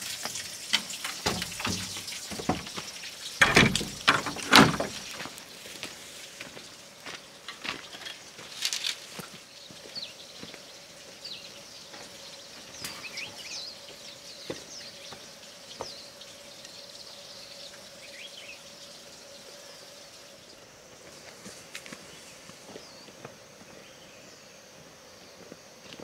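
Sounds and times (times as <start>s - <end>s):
small birds chirping: 1.1s - 26.0s.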